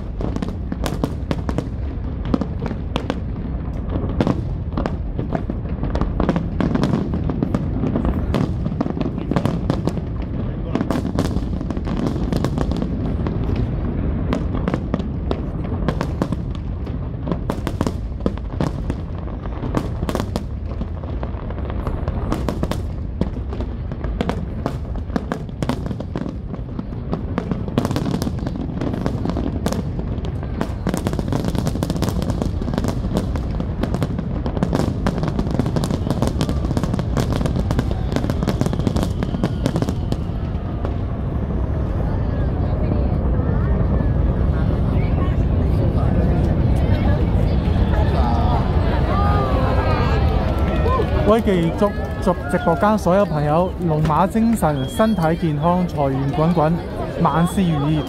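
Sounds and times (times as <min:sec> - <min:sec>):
fireworks bursting with crackling bangs: 0:00.0 - 0:58.0.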